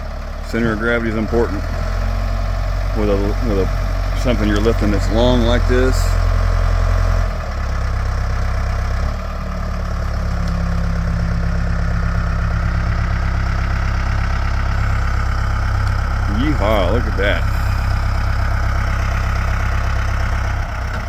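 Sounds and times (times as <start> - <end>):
backhoe diesel engine running: 0.0 - 21.0.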